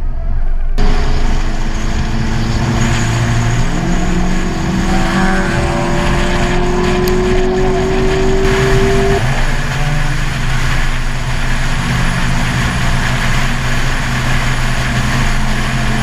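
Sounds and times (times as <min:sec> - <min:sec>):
car engine accelerating: 0:00.8 - 0:16.0.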